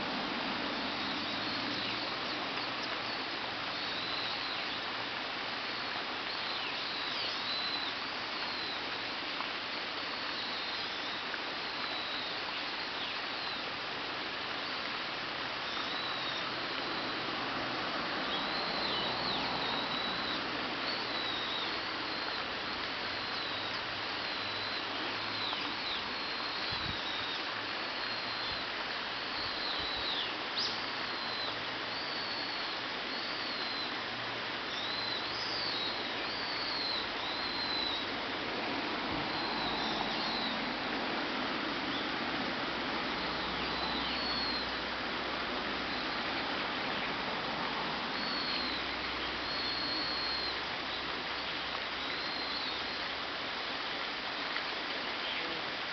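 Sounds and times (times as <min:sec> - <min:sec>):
steady background hiss: 0:00.0 - 0:55.9.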